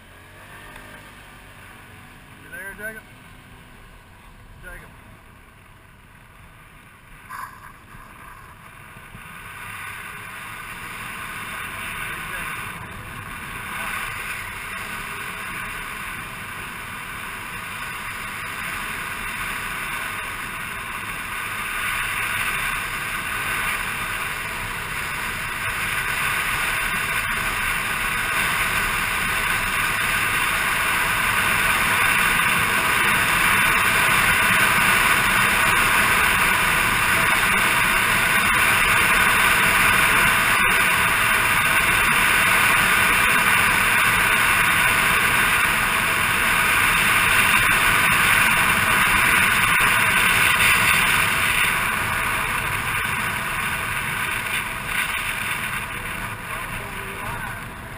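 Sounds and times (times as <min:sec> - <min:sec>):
scooter engine: 0:00.0 - 0:57.9
wind and road noise: 0:00.0 - 0:57.9.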